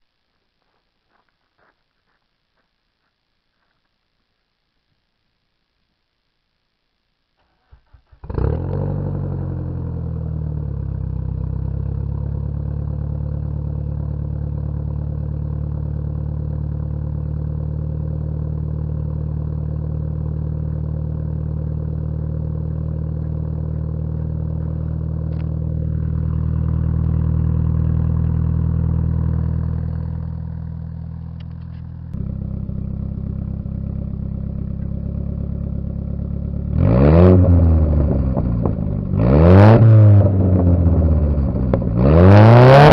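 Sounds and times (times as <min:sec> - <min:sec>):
car engine starting and idling: 0:07.4 - 0:42.9
engine revving: 0:08.0 - 0:42.9.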